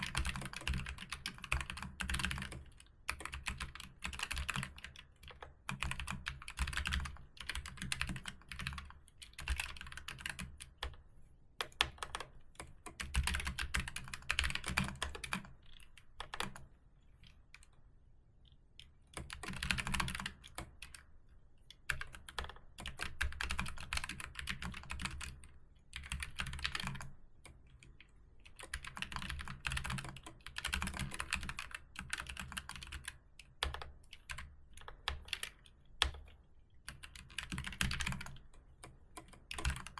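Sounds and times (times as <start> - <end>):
fast keyboard typing: 0.0 - 11.0, 11.6 - 16.7, 19.1 - 21.0, 21.8 - 39.9.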